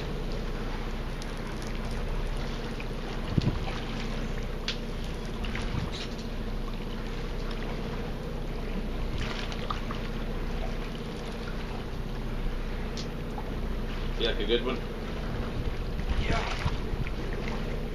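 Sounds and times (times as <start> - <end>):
low machinery hum: 0.0 - 17.9.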